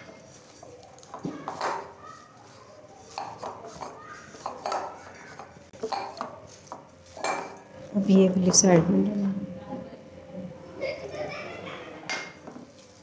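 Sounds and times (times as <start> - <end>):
dough squishing and scraping: 0.0 - 10.1, 10.8 - 13.0.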